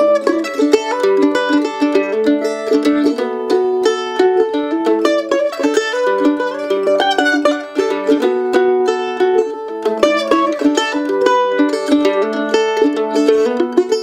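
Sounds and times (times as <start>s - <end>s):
mandolin playing quick melody: 0.0s - 14.0s.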